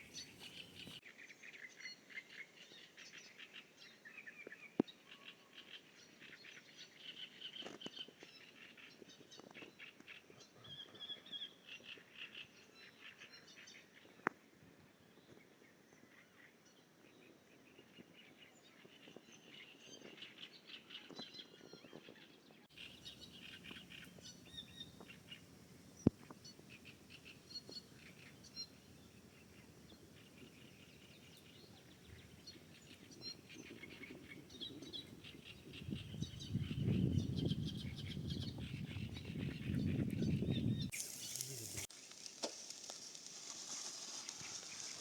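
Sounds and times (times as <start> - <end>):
small songbirds chirping: 0.0 - 13.9, 18.2 - 45.0.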